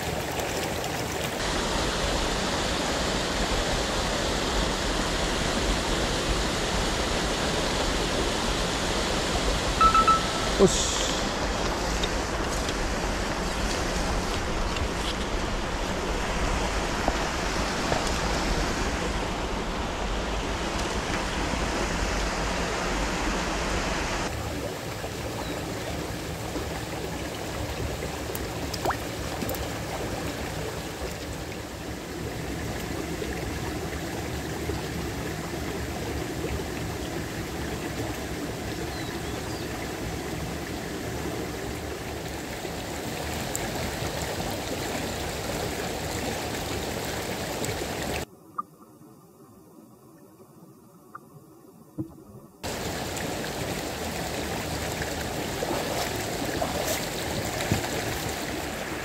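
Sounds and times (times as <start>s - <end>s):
creek flowing over rocks: 0.0s - 48.3s, 52.6s - 59.0s.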